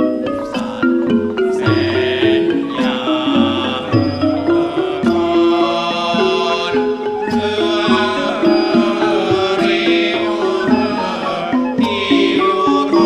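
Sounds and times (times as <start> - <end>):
chanted melody of held notes: 0.0 - 13.0
drum strokes: 0.0 - 13.0.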